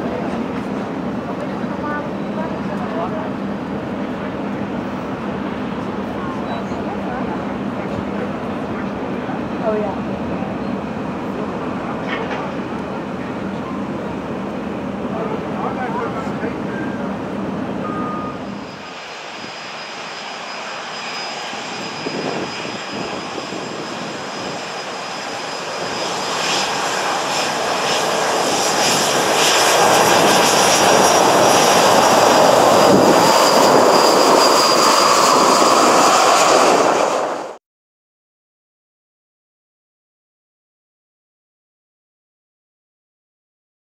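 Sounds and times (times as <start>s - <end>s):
jet engines taxiing: 0.0s - 37.6s.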